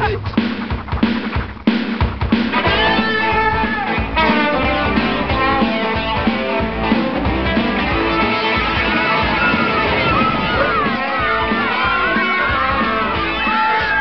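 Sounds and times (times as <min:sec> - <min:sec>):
rock band music: 0:00.0 - 0:14.0
electric guitar: 0:00.9 - 0:14.0.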